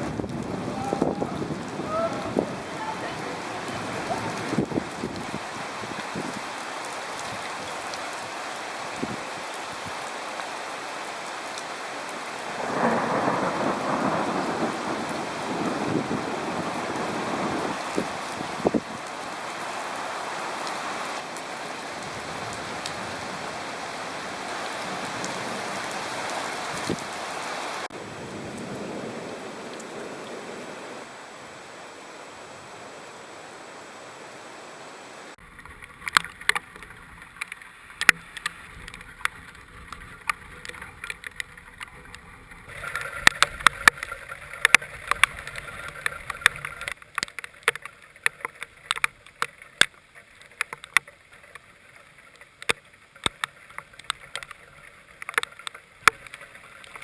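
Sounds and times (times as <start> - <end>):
rain or hail tapping: 0.0 - 31.3, 35.4 - 57.0
heavy rain and wind rushing: 0.0 - 51.6.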